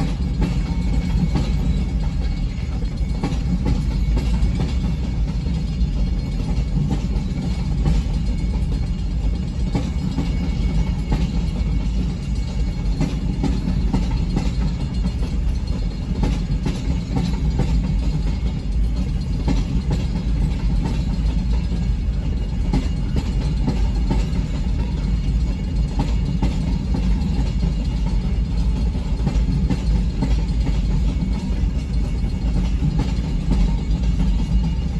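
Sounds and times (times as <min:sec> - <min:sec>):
freight train rumbling past: 0:00.0 - 0:34.9.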